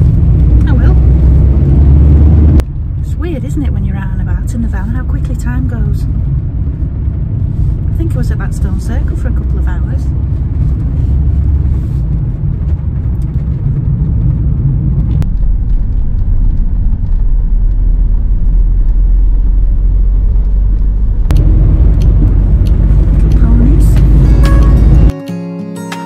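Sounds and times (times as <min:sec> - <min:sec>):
van engine and tyre rumble: 0:00.0 - 0:25.1.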